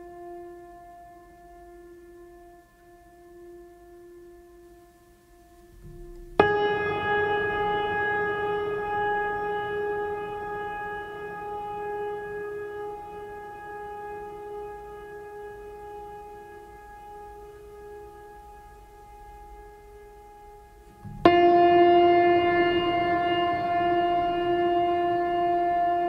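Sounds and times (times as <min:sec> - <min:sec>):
soft sustained tone: 0:00.0 - 0:26.0.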